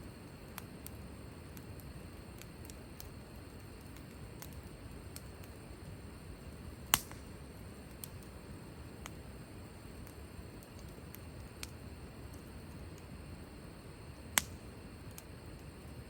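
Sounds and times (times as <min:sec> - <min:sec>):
wood fire crackling: 0:00.0 - 0:16.0
burning wood popping: 0:00.3 - 0:13.5, 0:14.3 - 0:16.0.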